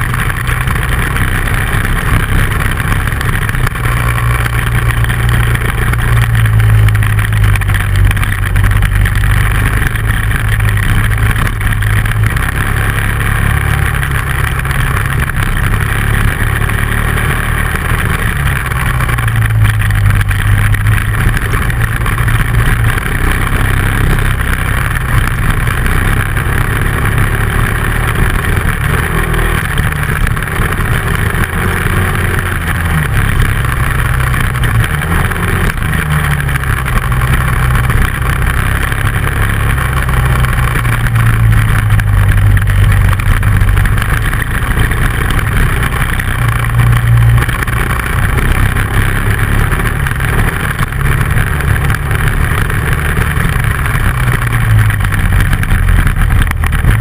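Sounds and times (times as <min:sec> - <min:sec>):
motorcycle engine revving: 0:00.0 - 0:57.0
steady rush of noise: 0:00.0 - 0:57.0.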